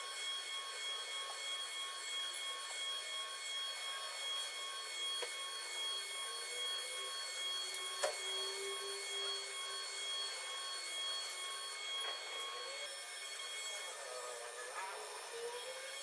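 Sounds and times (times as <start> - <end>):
machine whining over hiss: 0.0 - 16.0.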